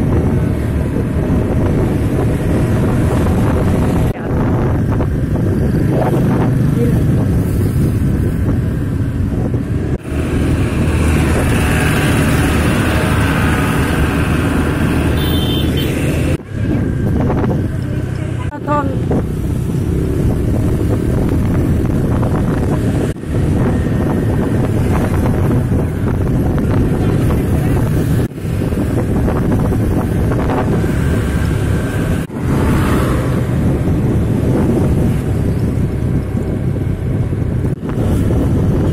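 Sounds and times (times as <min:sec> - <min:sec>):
wind buffeting microphone: 0:00.0 - 0:15.2, 0:16.1 - 0:38.9
road noise: 0:00.0 - 0:38.9
vehicle engine humming: 0:00.0 - 0:38.9.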